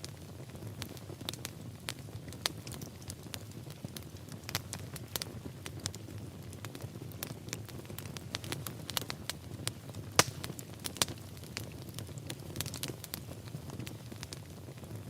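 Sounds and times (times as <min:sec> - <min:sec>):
fire flames rumbling: 0:00.0 - 0:15.0
wood fire crackling and popping: 0:00.0 - 0:15.0.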